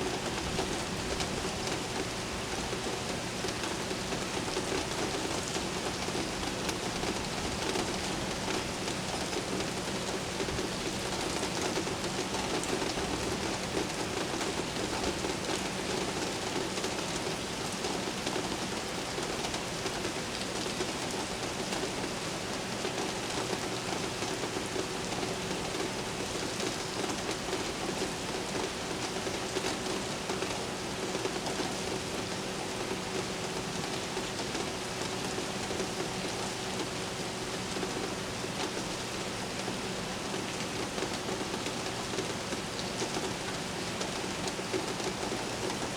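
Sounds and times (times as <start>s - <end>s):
heavy rain falling: 0.1s - 45.9s.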